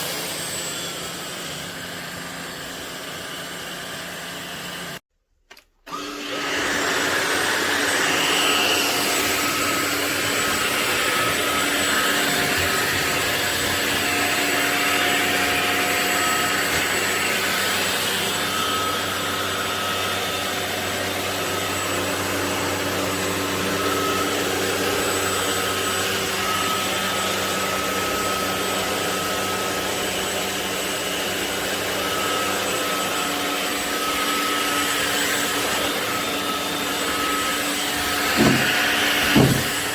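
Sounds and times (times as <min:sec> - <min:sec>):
stick vacuum running: 0:00.0 - 0:39.9.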